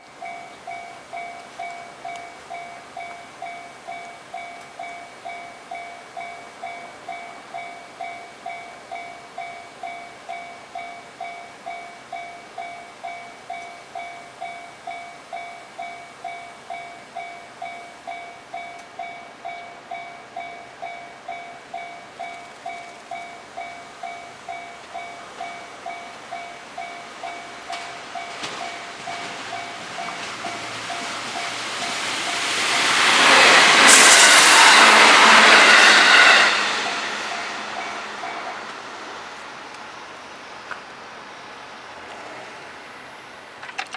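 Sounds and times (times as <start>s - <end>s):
level-crossing warning bell: 0.0s - 43.6s
train running noise: 0.0s - 43.9s.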